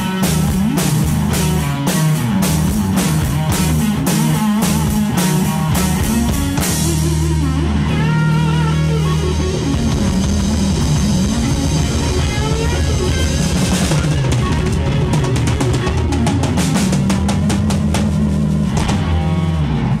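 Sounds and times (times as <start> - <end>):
drum kit fast hits: 0.0 - 7.5, 9.3 - 19.8
electric guitar lead notes: 0.0 - 20.0
rock band playing: 0.0 - 20.0.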